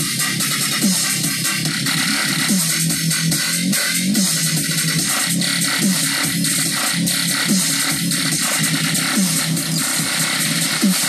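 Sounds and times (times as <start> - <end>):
sliding bass line: 0.0 - 11.0.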